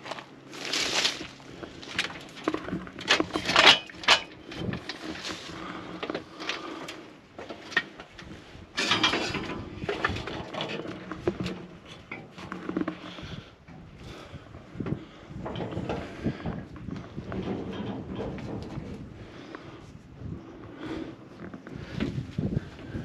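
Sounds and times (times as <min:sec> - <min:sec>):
metal ladder clanking: 0:00.6 - 0:19.4.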